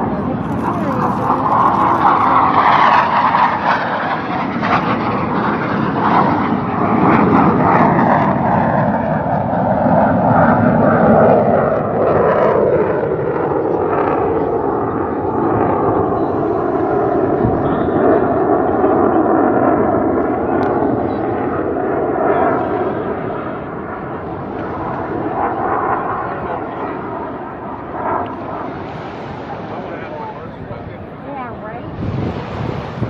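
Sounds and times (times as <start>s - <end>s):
jets roaring past: 0.0s - 33.0s.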